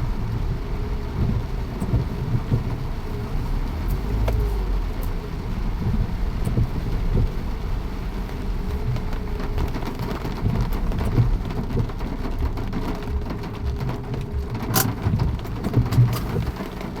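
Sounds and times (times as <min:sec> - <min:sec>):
low rumble: 0:00.0 - 0:17.0
rain pattering: 0:00.0 - 0:17.0.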